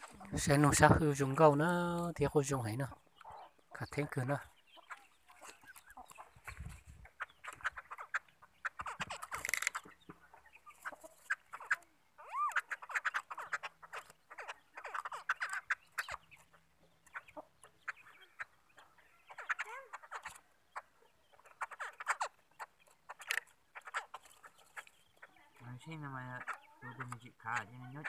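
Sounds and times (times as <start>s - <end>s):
songbirds chattering: 0.0s - 28.0s.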